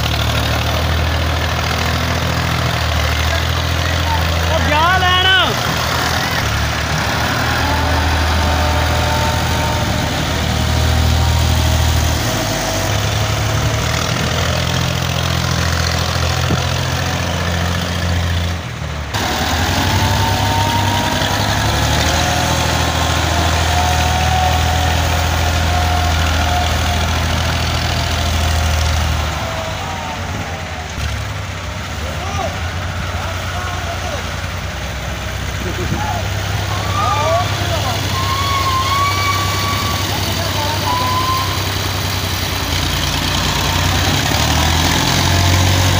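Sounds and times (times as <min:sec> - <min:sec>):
tractor engine drone: 0:00.0 - 0:45.9.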